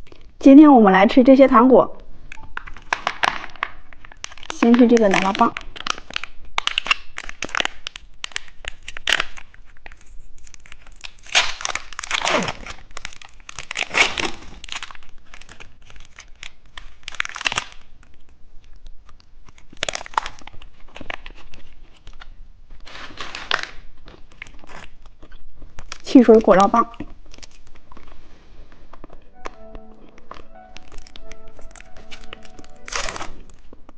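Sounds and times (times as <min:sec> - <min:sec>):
plastic wrapper crinkling: 0:02.5 - 0:33.9.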